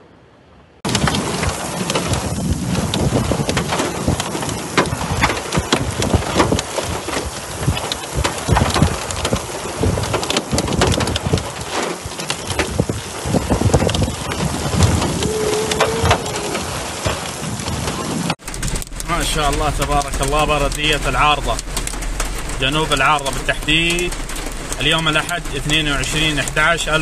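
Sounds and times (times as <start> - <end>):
heavy rain on asphalt: 0.8 - 27.0
hailstones ticking: 0.9 - 27.0.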